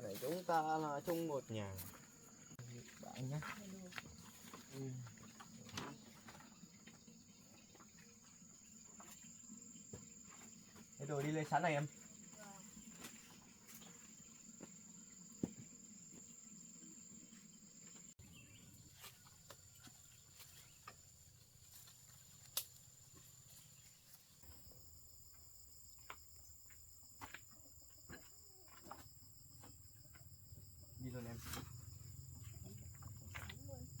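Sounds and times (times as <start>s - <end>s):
lower insect tone: 0.0s - 34.0s.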